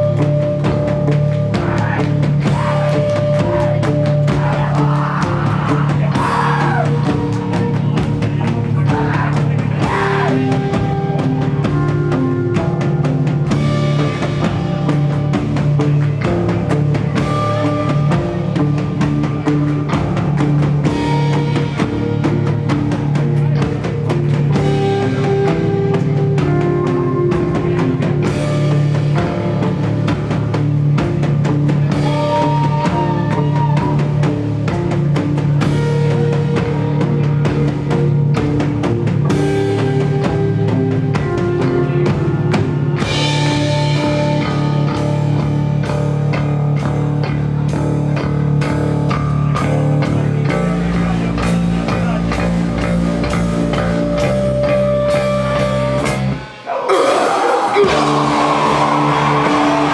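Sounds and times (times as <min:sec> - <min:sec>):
drum kit steady beat: 0:00.0 - 0:59.9
rock band playing live: 0:00.0 - 0:59.9.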